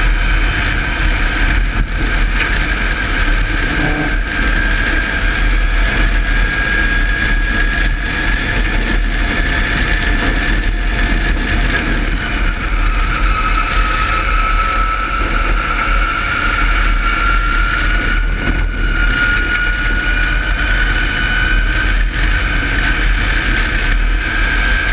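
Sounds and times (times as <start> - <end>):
electric motor whine: 0.0 - 24.9
road rumble: 0.0 - 24.9.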